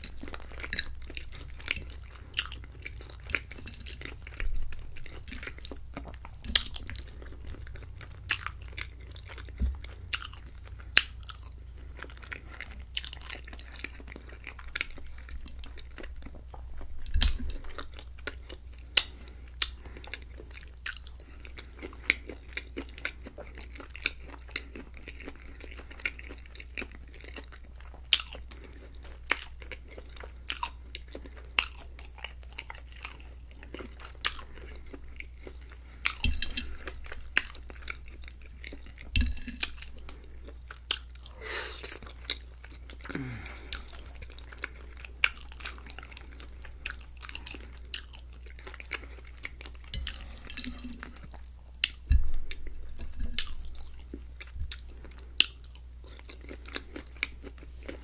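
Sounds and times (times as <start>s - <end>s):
wet chewing with clicks: 0.0s - 58.0s.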